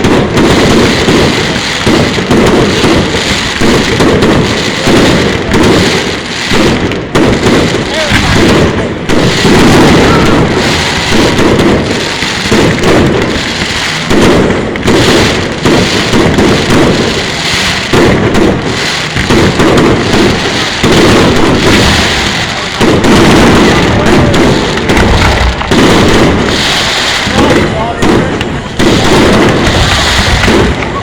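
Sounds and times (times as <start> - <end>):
fireworks booming and crackling: 0.0 - 31.0.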